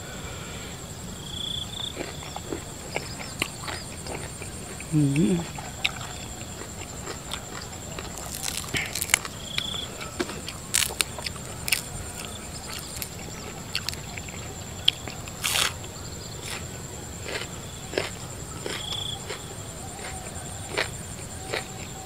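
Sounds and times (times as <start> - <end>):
wet chewing with crunches: 1.4 - 22.0.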